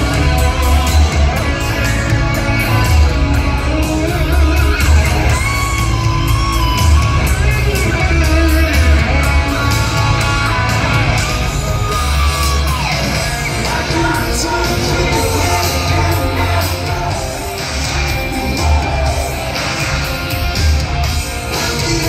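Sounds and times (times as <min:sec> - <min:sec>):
electric guitar bending notes: 0:00.0 - 0:21.9
heavy bass and drums: 0:00.0 - 0:22.0
voices singing and yelling: 0:00.0 - 0:22.0.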